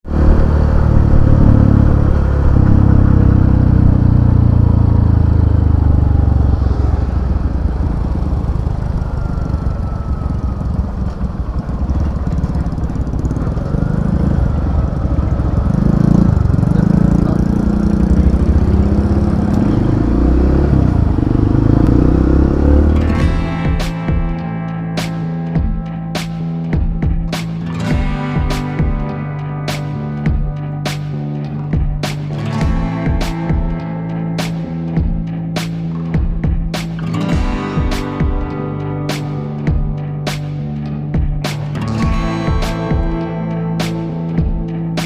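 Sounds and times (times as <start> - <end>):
vehicle engine rumbling: 0.0 - 45.0.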